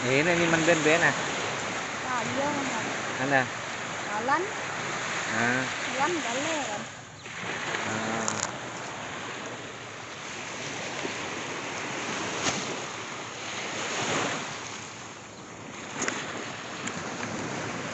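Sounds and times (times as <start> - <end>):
waves washing onto shore: 0.0 - 17.9
wind on microphone: 0.0 - 17.9.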